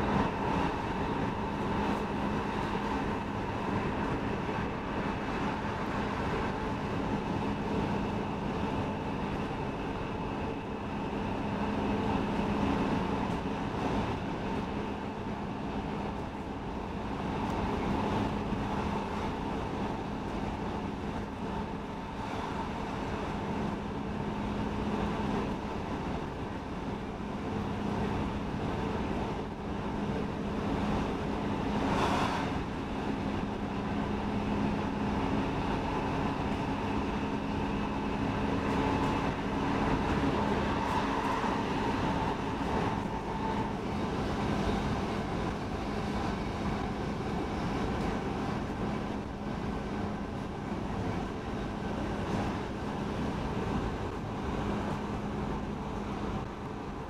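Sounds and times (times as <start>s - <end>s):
wheel-on-rail rumble: 0.0s - 57.0s.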